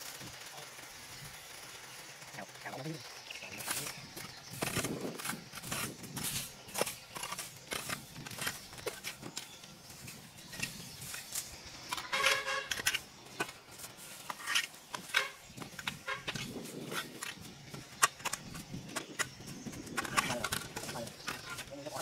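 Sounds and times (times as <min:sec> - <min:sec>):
vegetation being cut and pulled: 0:03.6 - 0:22.0.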